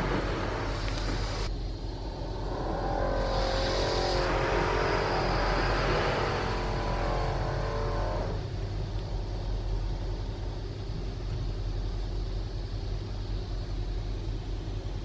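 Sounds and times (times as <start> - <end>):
car wash machinery rumbling: 0.0 - 15.0.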